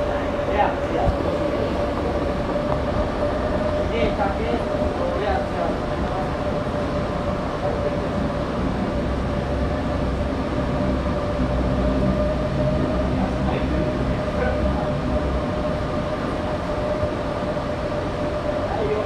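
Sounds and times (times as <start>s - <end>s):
train running gear rumbling: 0.0s - 19.0s
train whine: 0.0s - 19.0s.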